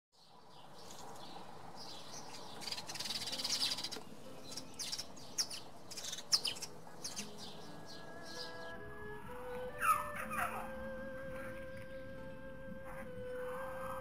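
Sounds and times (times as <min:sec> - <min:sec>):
sparrows chirping: 0:00.2 - 0:14.0.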